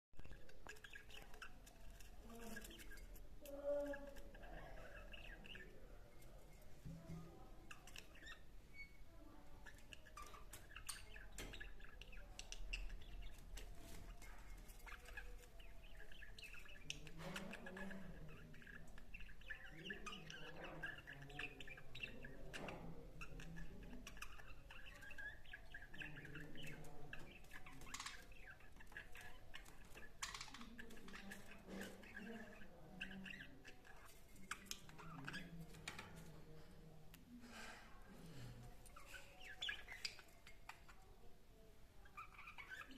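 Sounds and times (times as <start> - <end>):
budgerigars chattering and warbling: 0.2 - 6.4, 7.2 - 9.0, 9.6 - 36.3, 38.9 - 41.2, 42.0 - 42.9.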